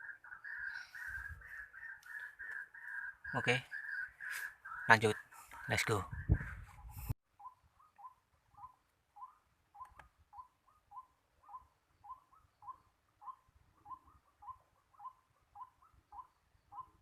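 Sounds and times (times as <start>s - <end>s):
faint bird calls: 0.0s - 17.0s.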